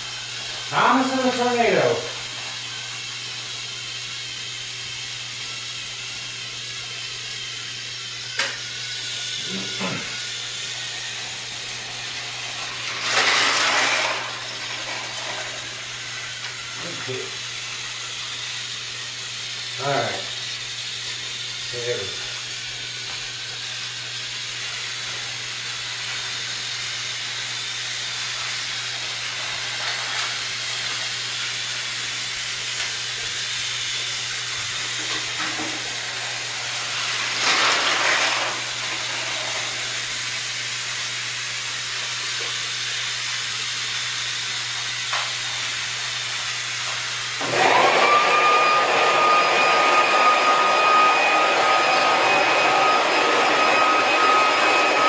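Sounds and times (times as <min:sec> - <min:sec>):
electric blower motor whining: 0:00.0 - 0:55.0.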